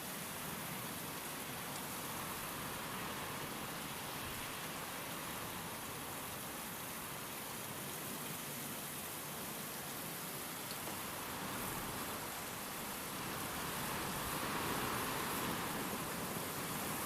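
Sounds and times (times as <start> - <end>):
rain falling: 0.0 - 17.0
wind: 0.0 - 17.0.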